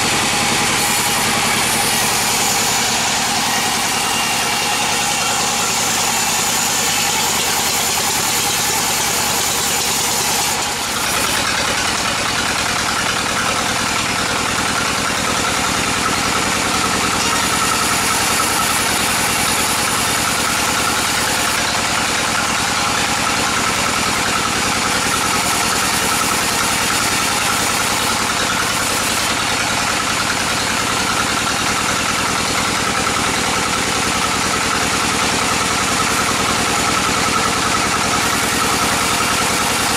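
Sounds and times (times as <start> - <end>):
band saw sawing timber: 0.0 - 39.9.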